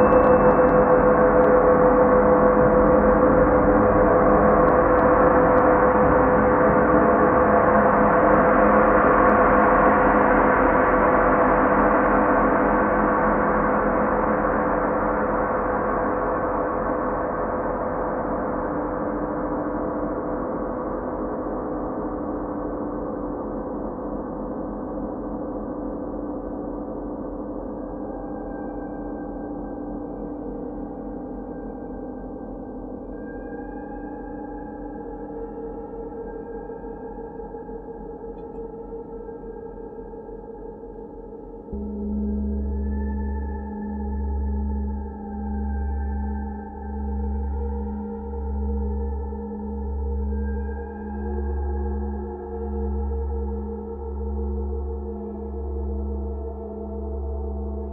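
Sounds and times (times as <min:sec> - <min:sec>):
deep gong-like ringing drone: 0:00.0 - 0:37.6, 0:41.6 - 0:57.9.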